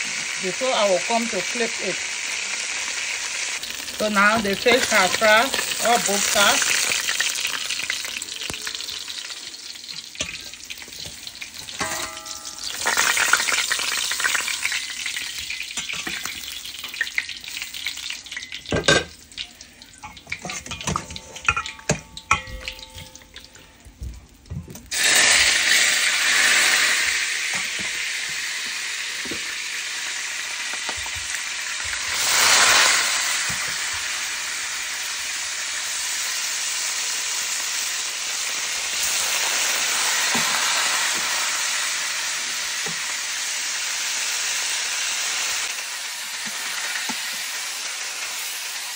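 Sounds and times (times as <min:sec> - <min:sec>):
food sizzling in hot oil: 0:00.0 - 0:48.9.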